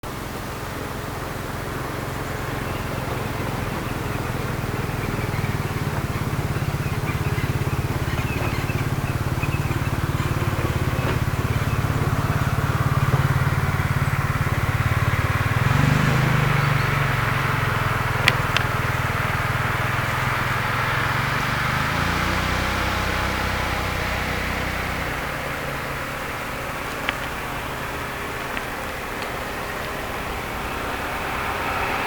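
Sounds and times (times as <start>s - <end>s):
steam train rumbling: 0.0s - 32.0s.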